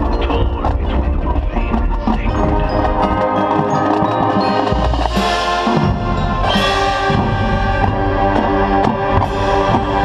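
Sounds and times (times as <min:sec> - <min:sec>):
marching band brass and percussion: 0:00.0 - 0:10.0.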